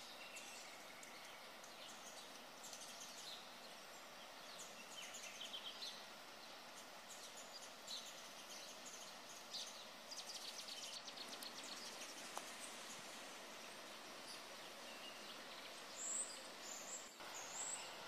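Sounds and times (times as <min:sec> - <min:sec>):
faint outdoor hiss: 0:00.0 - 0:18.0
small birds chirping: 0:00.0 - 0:18.0.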